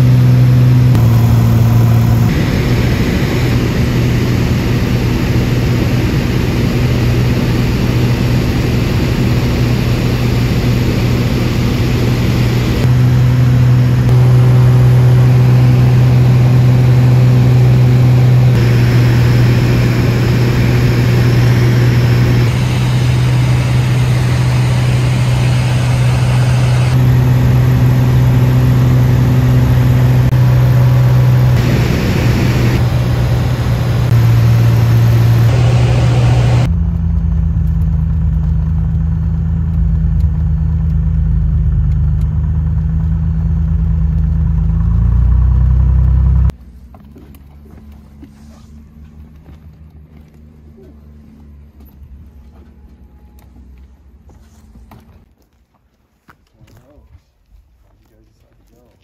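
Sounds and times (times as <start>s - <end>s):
propeller plane droning in cabin: 0.0s - 54.2s.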